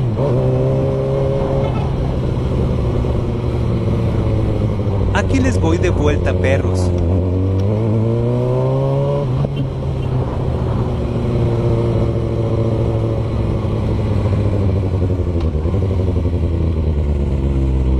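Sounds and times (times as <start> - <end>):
motorcycle engine accelerating: 0.0 - 17.9.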